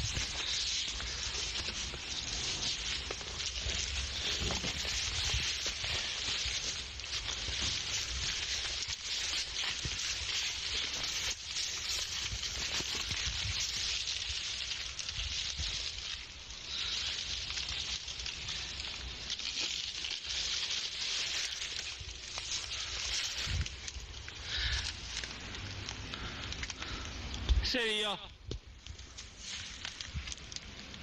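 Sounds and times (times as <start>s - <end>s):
crackling hiss: 0.0s - 31.0s.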